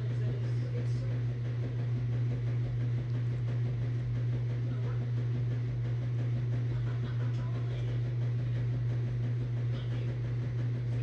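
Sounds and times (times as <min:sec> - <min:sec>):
steady low motor hum: 0:00.0 - 0:11.0.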